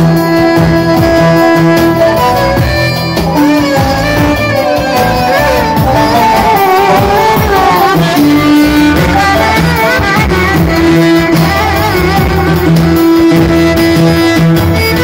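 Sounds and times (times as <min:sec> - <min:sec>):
electronic keyboard chords: 0:00.0 - 0:15.0
steady beat: 0:00.0 - 0:15.0
violin melody with vibrato: 0:00.0 - 0:15.0.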